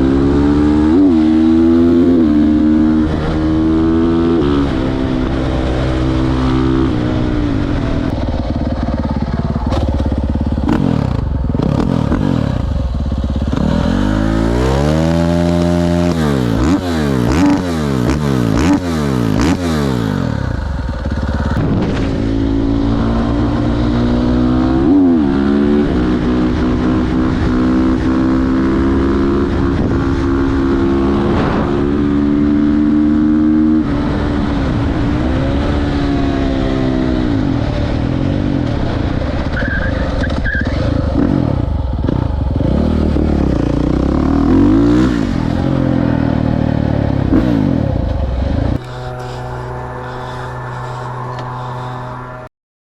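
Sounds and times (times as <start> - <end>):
motorcycle engine revving: 0.0 - 52.5.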